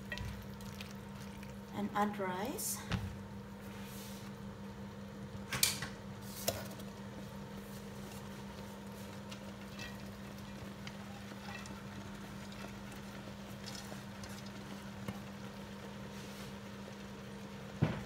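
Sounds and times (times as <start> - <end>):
steady low hum: 0.0 - 18.0
stew simmering: 0.0 - 18.0.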